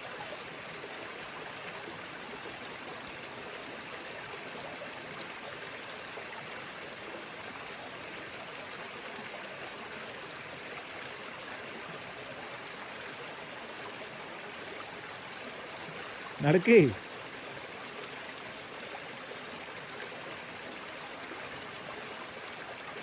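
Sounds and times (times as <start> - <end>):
water flowing over rocks: 0.0 - 23.0.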